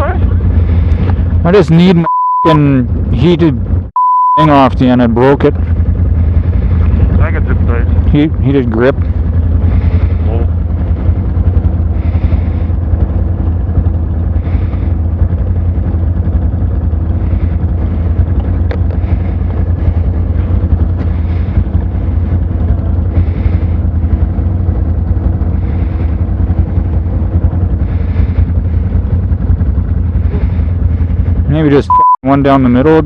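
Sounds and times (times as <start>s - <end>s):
atv engine deep hum: 0.0s - 33.0s.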